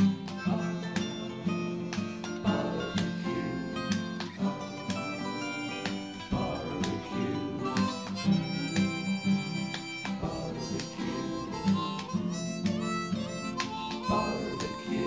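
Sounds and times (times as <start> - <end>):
harmonica playing: 0.0 - 15.0
strummed acoustic guitar: 0.0 - 15.0.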